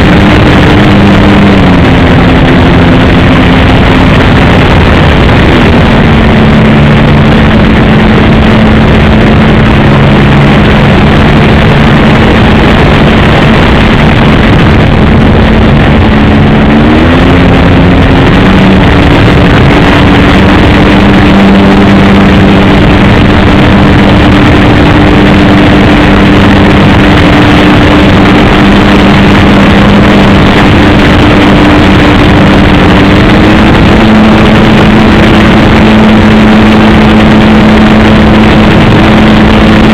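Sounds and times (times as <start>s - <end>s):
dense rushing noise: 0.0s - 39.9s
model airplane engine running: 0.0s - 39.9s.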